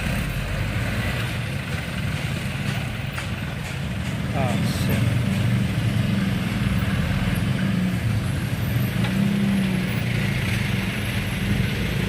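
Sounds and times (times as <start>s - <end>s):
heavy vehicle engines droning: 0.0s - 12.0s.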